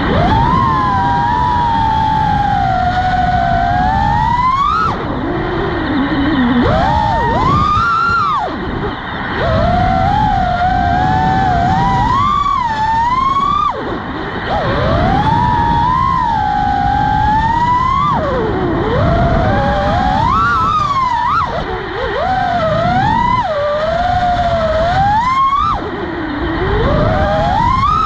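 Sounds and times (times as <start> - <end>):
quadcopter drone whining: 0.0 - 28.0
wind rumbling on microphone: 0.0 - 28.0.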